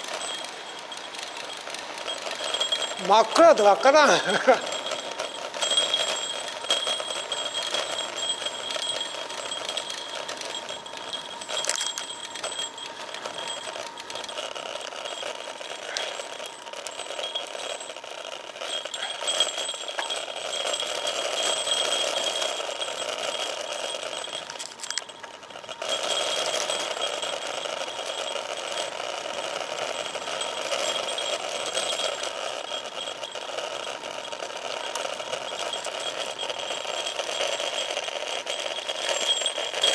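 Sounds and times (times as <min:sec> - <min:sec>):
bicycle freewheel ticking: 0:00.0 - 0:39.9.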